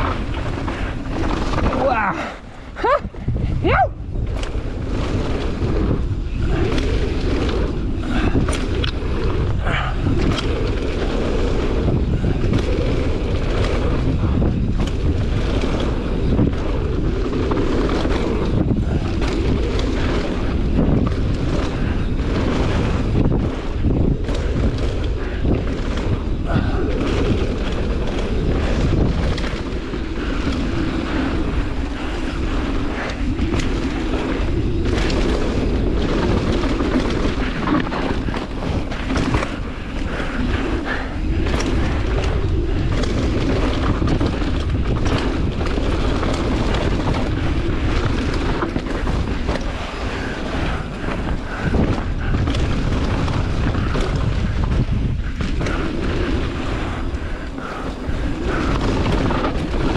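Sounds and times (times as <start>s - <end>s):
bike knocking and rattling: 0.0s - 59.9s
bike tyres on rough trail: 0.0s - 59.9s
wind buffeting microphone: 0.0s - 59.9s.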